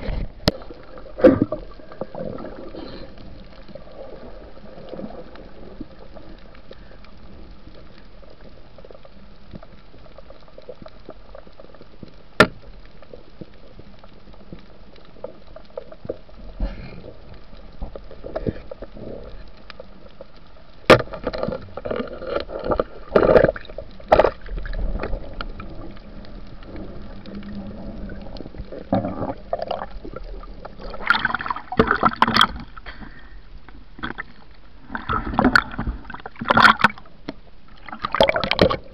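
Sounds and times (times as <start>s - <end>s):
splashing and bubbling: 0.0s - 20.3s, 20.9s - 38.9s.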